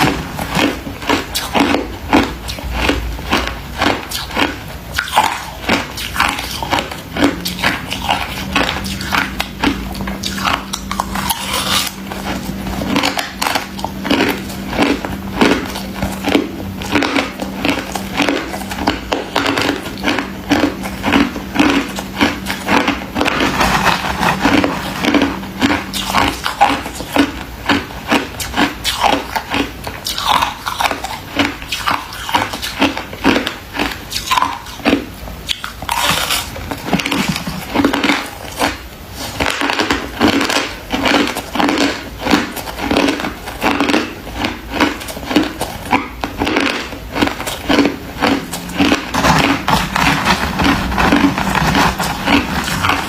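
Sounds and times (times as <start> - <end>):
crunchy frost being chewed: 0.0 - 53.0.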